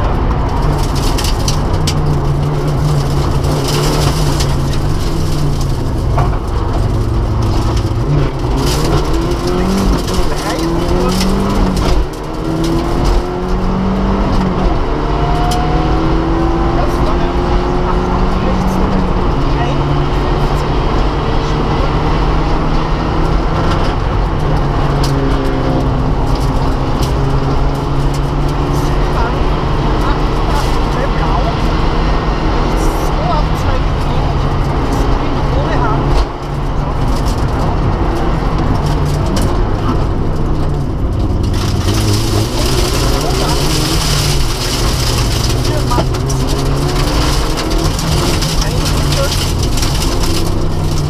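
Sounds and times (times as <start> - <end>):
rally car engine at high revs: 0.0 - 51.0
road and tyre noise: 0.0 - 51.0.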